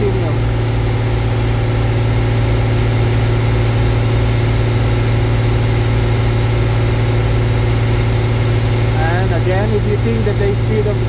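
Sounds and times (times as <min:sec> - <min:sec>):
cooling fan: 0:00.0 - 0:11.0
diesel engine at high idle: 0:00.0 - 0:11.0.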